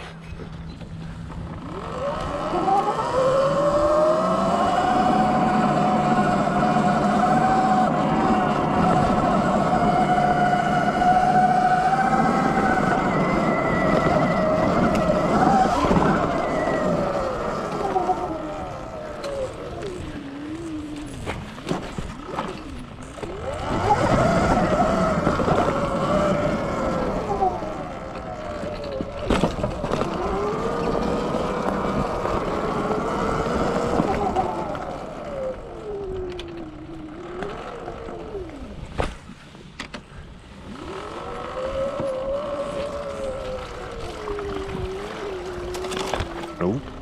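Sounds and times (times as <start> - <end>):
electric dirt bike motor whine: 0.0 - 47.0.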